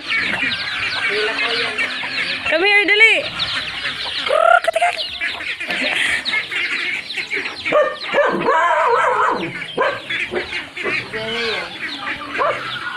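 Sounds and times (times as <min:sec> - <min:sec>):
chickens clucking and chirping: 0:00.0 - 0:12.9.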